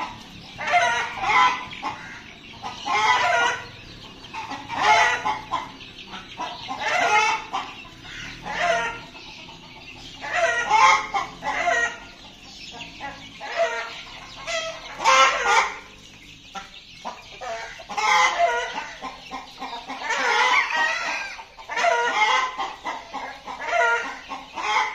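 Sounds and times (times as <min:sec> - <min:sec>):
chickens calling and clucking: 0:00.0 - 0:24.9.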